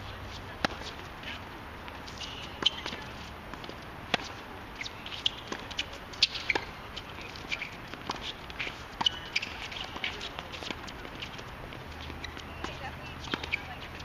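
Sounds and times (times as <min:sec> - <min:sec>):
tennis balls struck by rackets: 0:00.0 - 0:14.0
quick footsteps on court: 0:00.2 - 0:14.0.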